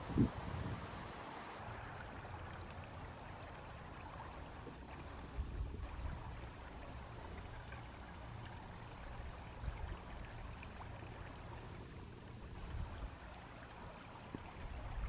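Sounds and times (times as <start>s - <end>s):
faint rushing background noise: 0.0s - 14.3s.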